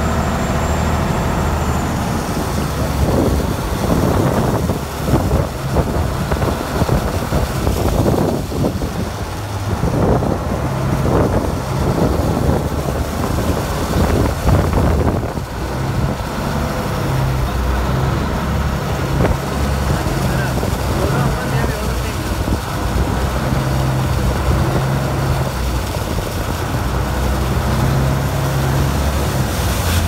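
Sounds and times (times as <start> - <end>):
boat engine running: 0.0 - 30.0
water rushing past hull: 0.0 - 30.0
wind buffeting microphone: 2.0 - 29.8.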